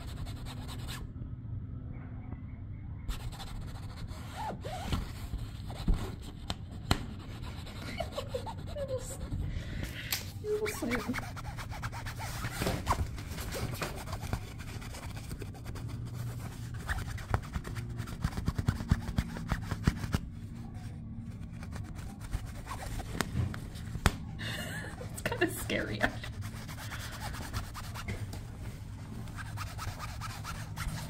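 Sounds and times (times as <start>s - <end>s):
low hum: 0.0s - 31.0s
scratching on taut fabric: 3.1s - 9.4s, 10.4s - 24.3s, 24.9s - 31.0s.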